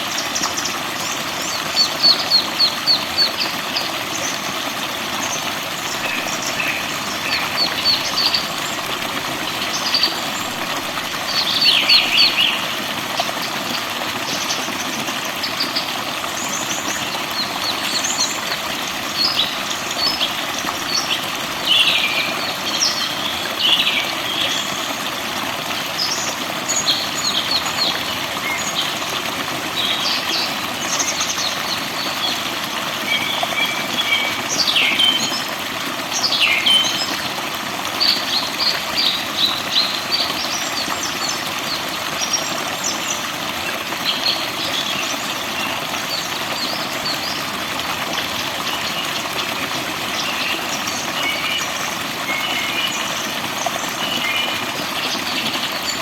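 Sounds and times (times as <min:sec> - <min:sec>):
birds singing and chirping: 0:00.0 - 0:04.6, 0:05.2 - 0:25.0, 0:25.8 - 0:35.5, 0:36.2 - 0:37.3, 0:38.0 - 0:47.4, 0:48.5 - 0:56.0.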